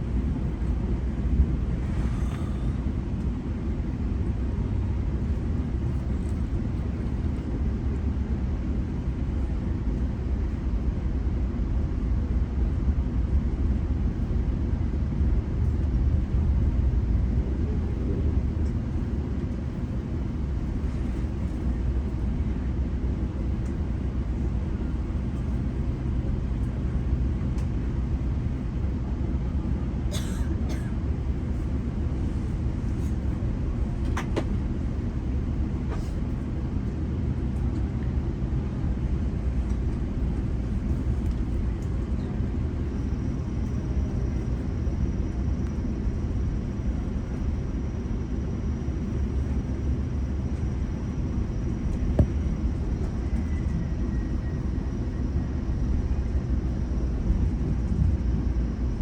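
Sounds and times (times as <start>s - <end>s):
train rumble inside a coach: 0.0s - 59.0s.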